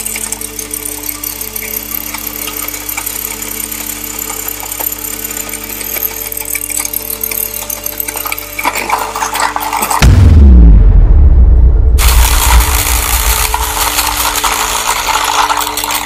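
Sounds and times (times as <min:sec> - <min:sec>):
toy robot motor whirring: 0:00.0 - 0:10.0, 0:12.0 - 0:16.0
gears clicking and rattling: 0:00.0 - 0:10.2, 0:12.0 - 0:16.0.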